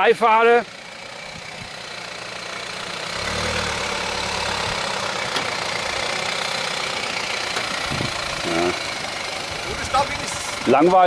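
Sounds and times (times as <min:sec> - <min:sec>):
diesel engine low drone: 0:00.0 - 0:11.0.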